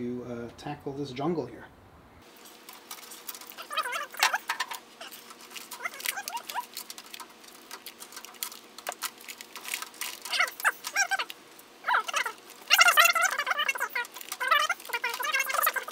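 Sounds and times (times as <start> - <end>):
cables rattling and clicking: 2.3 - 15.9.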